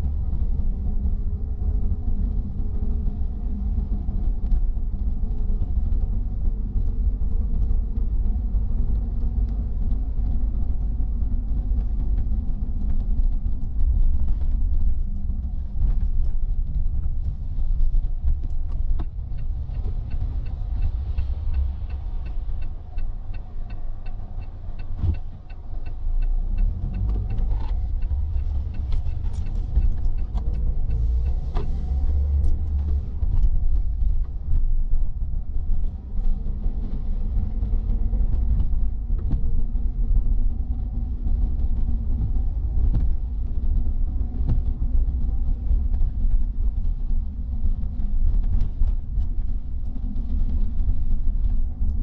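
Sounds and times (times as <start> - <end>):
engine and tyre rumble: 0.0 - 52.0.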